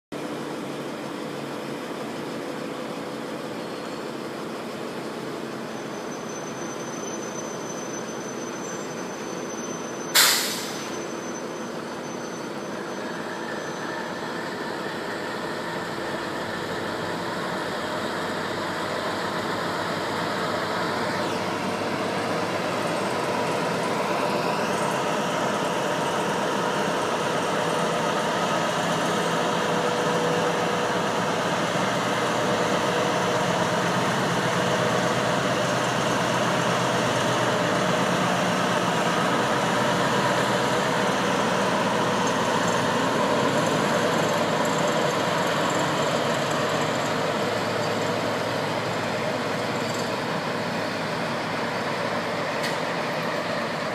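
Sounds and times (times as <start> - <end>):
diesel locomotive engine drone: 0.1 - 53.9.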